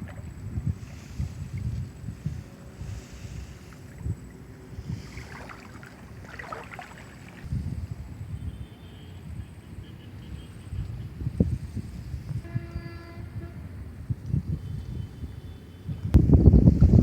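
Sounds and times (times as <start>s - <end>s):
wind buffeting microphone: 0.0s - 9.6s, 10.5s - 17.0s.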